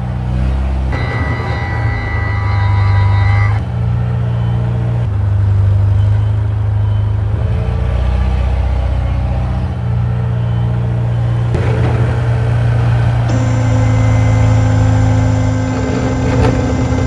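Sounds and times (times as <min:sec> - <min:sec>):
tractor engine running: 0:00.9 - 0:08.1, 0:09.6 - 0:17.0.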